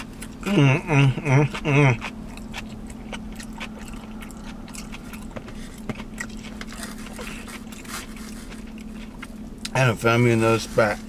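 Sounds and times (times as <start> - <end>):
person chewing: 0.0 - 9.8
steady low hum: 0.0 - 11.0.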